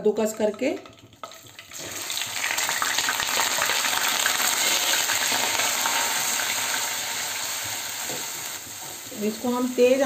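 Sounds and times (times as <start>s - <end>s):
onion sizzling in hot oil: 0.1s - 10.0s.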